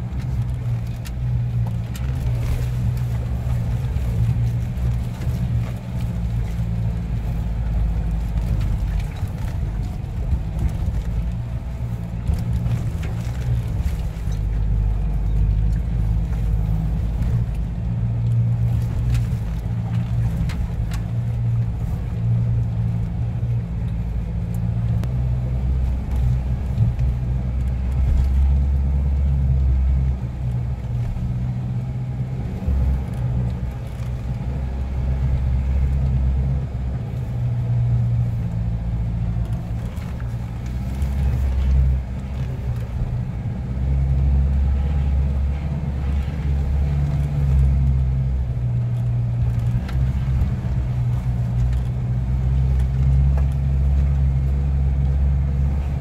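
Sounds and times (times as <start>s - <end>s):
vehicle engine under load: 0.0s - 56.0s.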